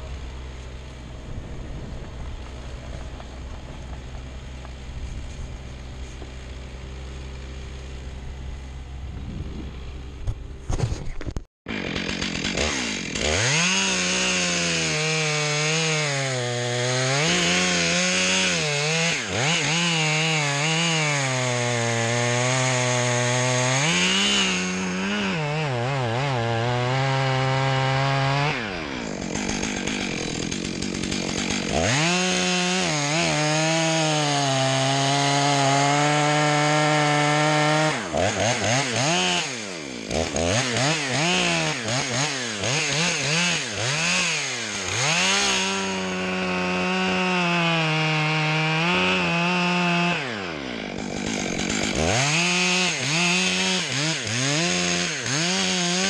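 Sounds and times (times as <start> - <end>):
chainsaw cutting into wood: 0.0 - 56.0
chainsaw engine: 0.0 - 56.0.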